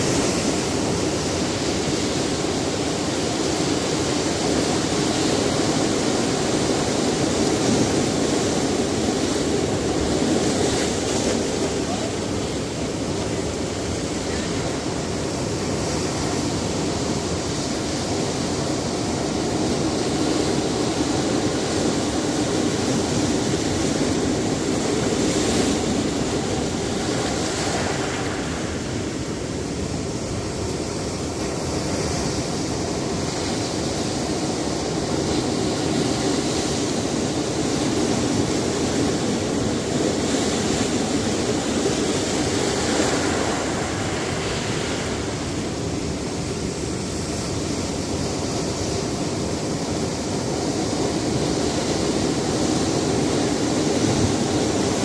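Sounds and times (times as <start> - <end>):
waves breaking on rocks: 0.0 - 55.0.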